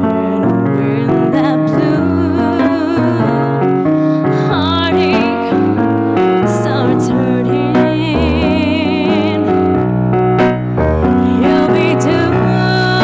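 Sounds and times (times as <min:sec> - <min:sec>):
woman singing into microphone: 0:00.0 - 0:09.8, 0:11.1 - 0:13.0
piano chords on keyboard: 0:00.0 - 0:13.0.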